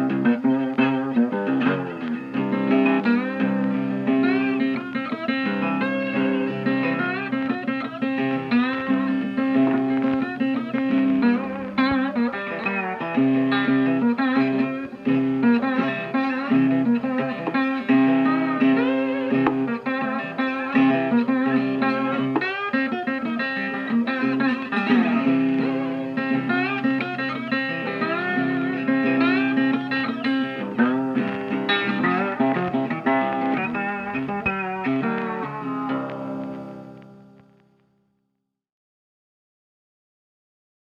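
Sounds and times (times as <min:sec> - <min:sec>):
blues guitar with bent notes: 0:00.0 - 0:38.1.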